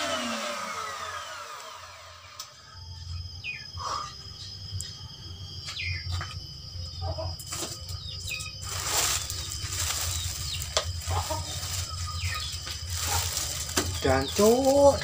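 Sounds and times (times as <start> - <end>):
low pulsing hum: 0.0 - 15.0
birds chirping: 2.2 - 15.0.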